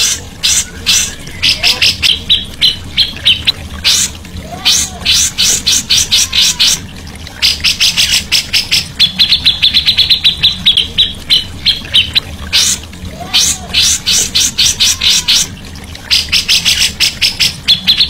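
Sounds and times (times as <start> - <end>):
songbird calling: 0.0 - 18.0.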